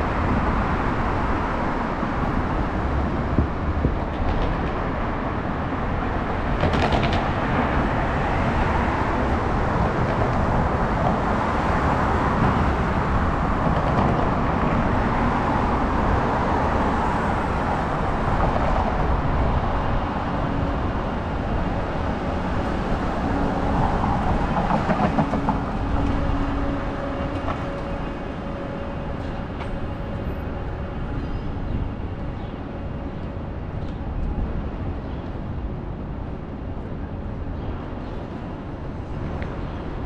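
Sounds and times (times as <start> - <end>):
street traffic: 0.0 - 40.0
streetcar motor whine: 0.0 - 40.0.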